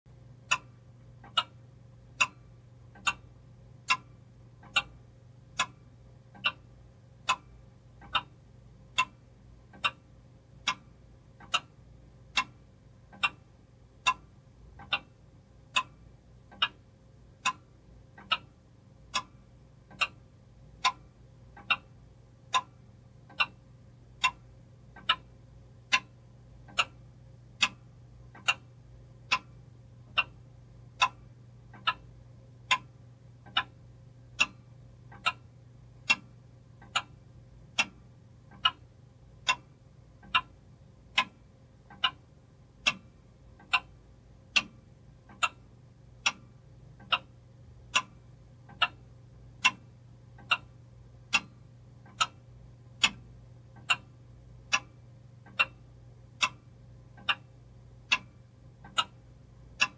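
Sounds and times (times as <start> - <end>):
faint low hum: 0.1 - 59.9
steady ticking: 0.1 - 59.9.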